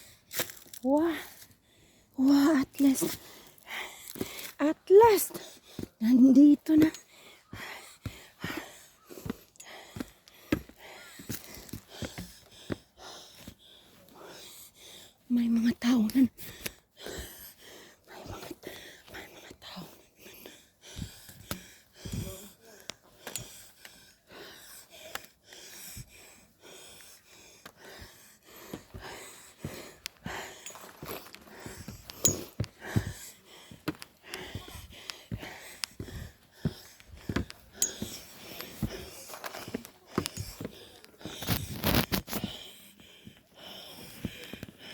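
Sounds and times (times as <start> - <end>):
person breathing heavily: 1.1 - 6.0, 6.8 - 15.3, 16.3 - 44.9.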